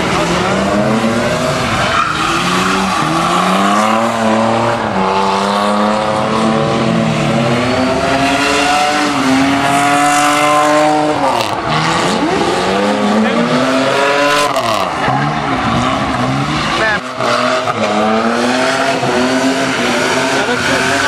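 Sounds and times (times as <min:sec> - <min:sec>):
car engine at high revs: 0:00.0 - 0:21.0.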